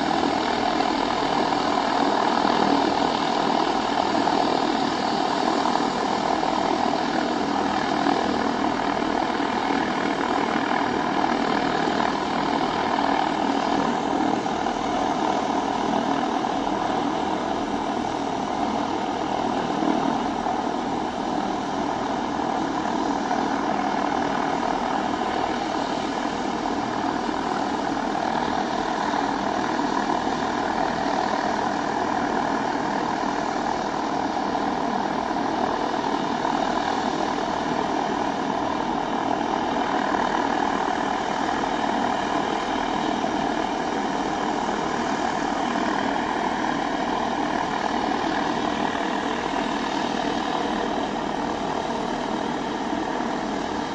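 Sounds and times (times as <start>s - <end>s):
turboprop engines droning: 0.0s - 53.9s.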